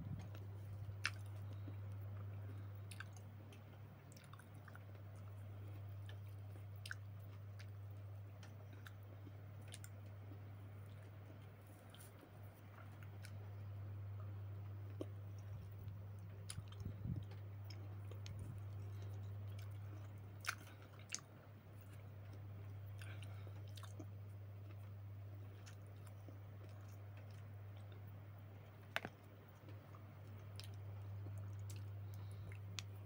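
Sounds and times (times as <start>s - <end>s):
steady low hum: 0.0s - 33.0s
person chewing fruit: 0.1s - 33.0s.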